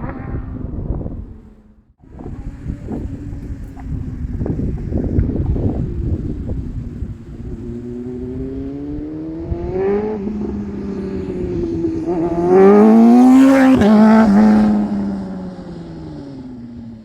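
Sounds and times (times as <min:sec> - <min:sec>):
motorcycle engine accelerating past: 0:00.0 - 0:17.0.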